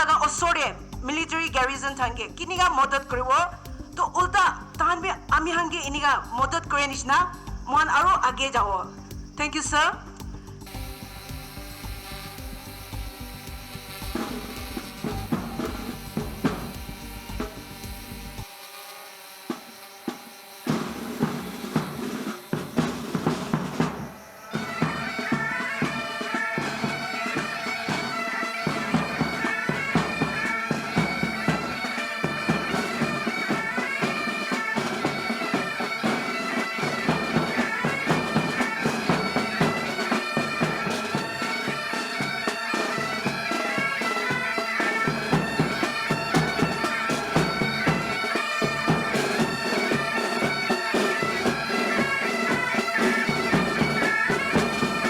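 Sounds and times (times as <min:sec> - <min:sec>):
regular beat: 0:00.0 - 0:18.5, 0:19.5 - 0:55.0
bagpipes playing a tune: 0:09.6 - 0:55.0
bagpipe drone: 0:10.3 - 0:55.0.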